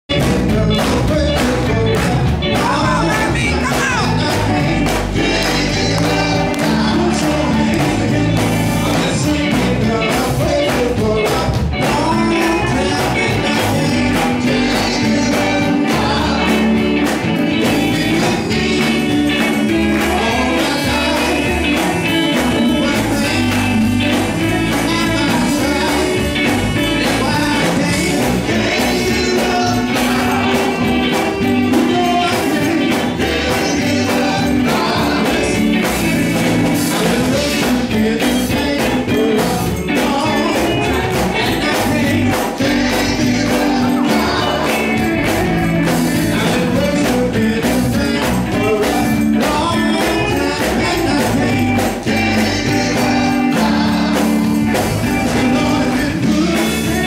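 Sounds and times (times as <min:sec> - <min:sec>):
electric guitar: 0:00.0 - 0:57.0
drums: 0:00.1 - 0:57.0
group singing gospel: 0:00.1 - 0:57.0.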